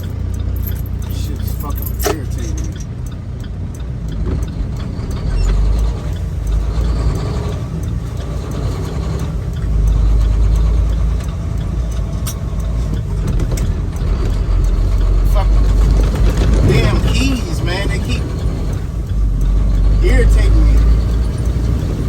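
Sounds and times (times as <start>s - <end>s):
diesel truck engine rumble: 0.0s - 22.0s.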